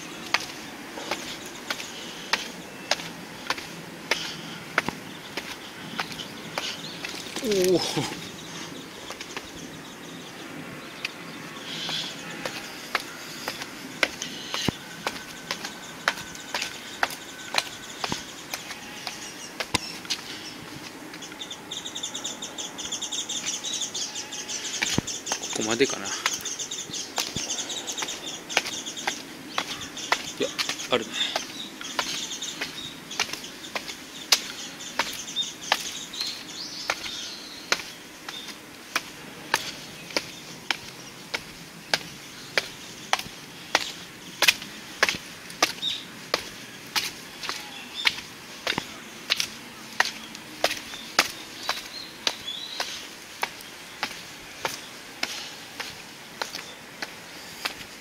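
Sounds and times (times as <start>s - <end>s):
footsteps on concrete steps: 0.0s - 58.0s.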